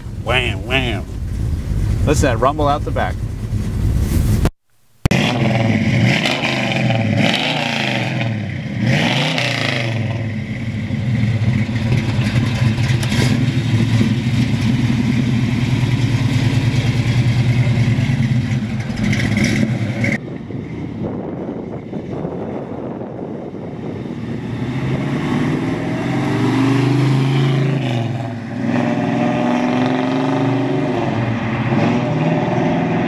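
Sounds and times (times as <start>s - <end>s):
car engine revving and rumbling: 0.0s - 33.0s.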